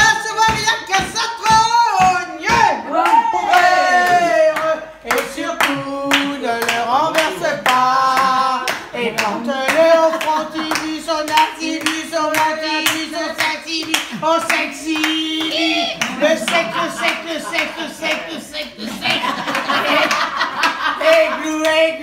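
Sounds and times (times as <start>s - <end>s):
hands clapping a steady beat: 0.0s - 22.0s
group of people singing: 2.6s - 22.0s.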